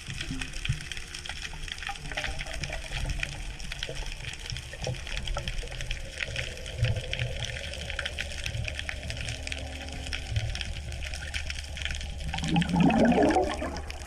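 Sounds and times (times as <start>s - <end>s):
crackle of small clicks: 0.0s - 14.0s
low underwater hum: 0.0s - 14.0s.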